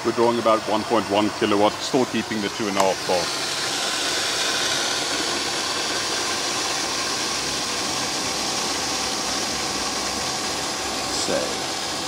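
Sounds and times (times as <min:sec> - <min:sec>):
pump whine: 0:00.0 - 0:12.0
water rushing through pipes: 0:00.1 - 0:12.0.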